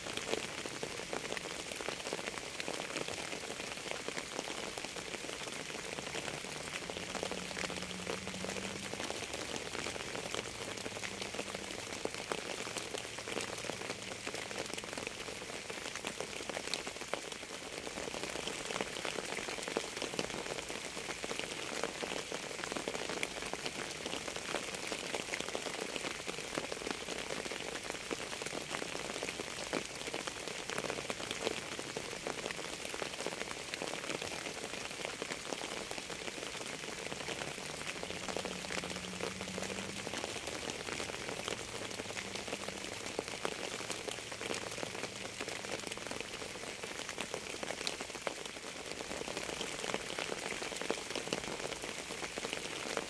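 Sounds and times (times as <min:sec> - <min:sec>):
rain hissing: 0:00.0 - 0:53.0
raindrops ticking: 0:00.0 - 0:53.0.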